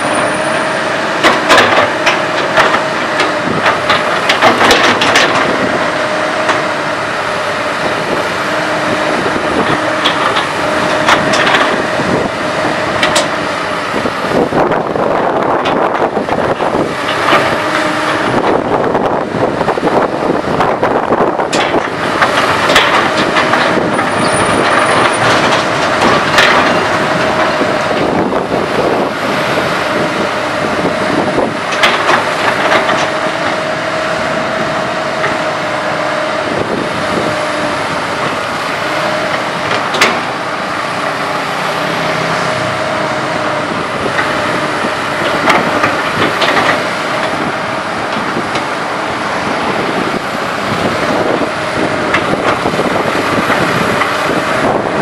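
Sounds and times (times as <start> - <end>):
excavator engine whining: 0.0 - 55.0
excavator bucket clanks: 0.3 - 6.8, 8.9 - 14.1, 15.4 - 18.6, 21.4 - 41.5, 42.1 - 55.0.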